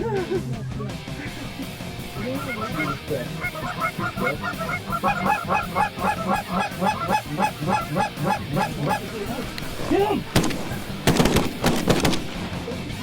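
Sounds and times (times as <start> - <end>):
geese honking: 1.2 - 12.5.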